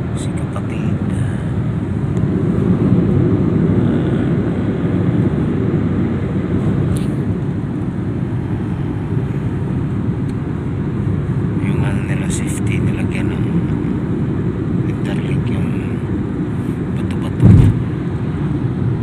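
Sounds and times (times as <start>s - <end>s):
vehicle engine and tyres rumbling: 0.0s - 19.0s.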